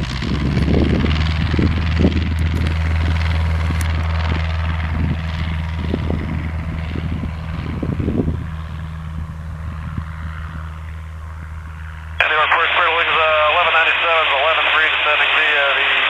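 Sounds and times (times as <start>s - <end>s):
propeller plane engine running: 0.0s - 16.0s.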